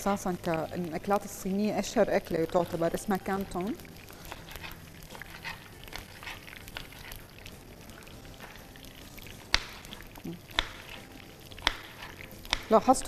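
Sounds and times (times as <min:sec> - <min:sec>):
onion and garlic frying: 0:00.0 - 0:13.0.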